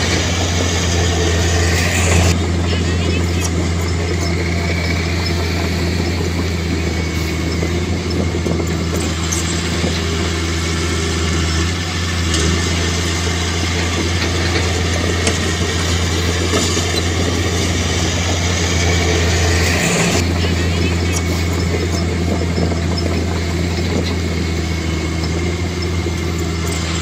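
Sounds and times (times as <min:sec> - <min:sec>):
diesel engine humming: 0:00.0 - 0:27.0.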